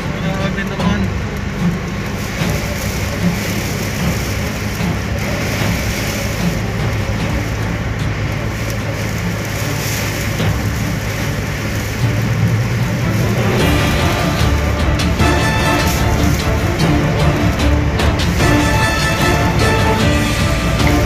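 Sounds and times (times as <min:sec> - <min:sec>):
constant low hum: 0:00.0 - 0:21.0
wind with blowing sand: 0:00.0 - 0:21.0.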